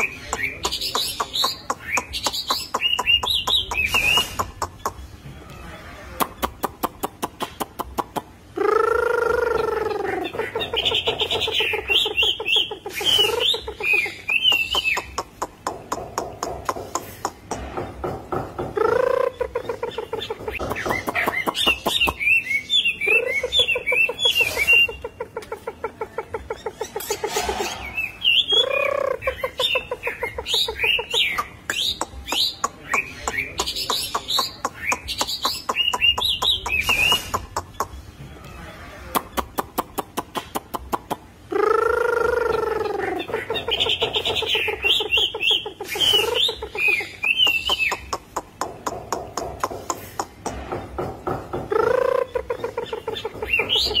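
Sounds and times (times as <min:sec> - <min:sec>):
bird singing: 0:00.0 - 0:05.6, 0:08.5 - 0:38.4, 0:41.5 - 0:54.0.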